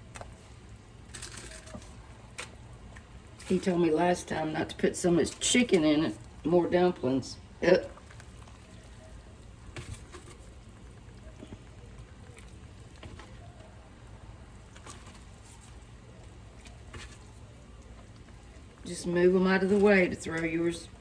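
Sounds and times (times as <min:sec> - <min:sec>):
pot bubbling at a boil: 0:00.0 - 0:21.0.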